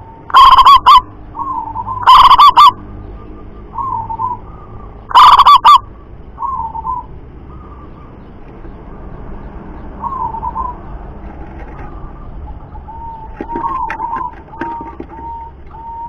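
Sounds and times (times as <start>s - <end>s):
dove cooing: 0.0s - 8.2s, 10.0s - 16.0s.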